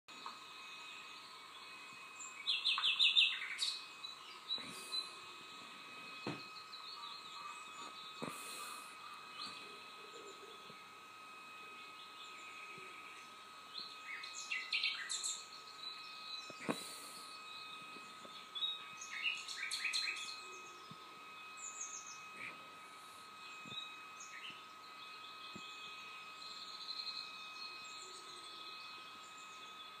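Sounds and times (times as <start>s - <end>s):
birds chirping: 0.1s - 30.0s
faint steady high tone: 0.1s - 30.0s.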